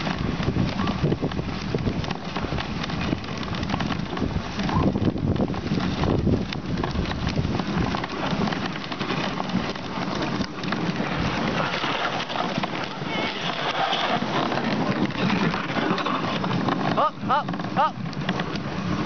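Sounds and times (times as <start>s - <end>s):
sled runners and paws crackling on snow: 0.0s - 19.0s.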